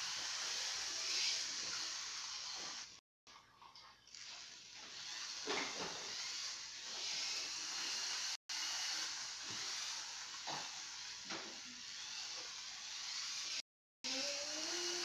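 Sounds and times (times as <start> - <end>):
toy train motor whirring: 0.0 - 3.0, 4.2 - 15.0.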